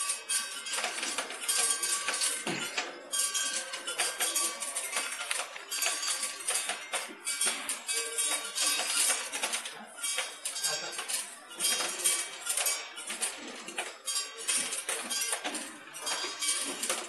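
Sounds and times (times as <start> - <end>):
tablets rattling on metal track: 0.0 - 17.0.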